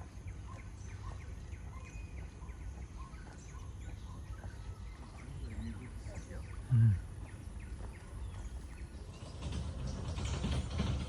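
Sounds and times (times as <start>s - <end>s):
birds chirping: 0.0s - 10.7s.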